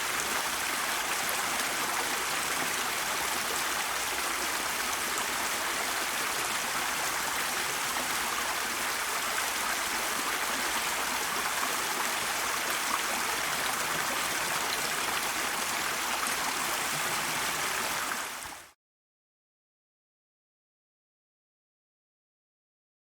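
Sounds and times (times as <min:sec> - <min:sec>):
stream flowing: 0:00.0 - 0:18.8.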